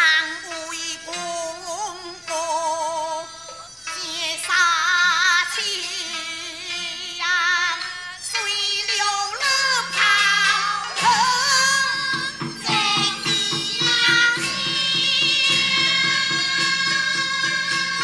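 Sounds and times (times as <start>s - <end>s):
high singing voice with vibrato: 0.0s - 18.0s
opera band accompaniment: 0.0s - 18.0s.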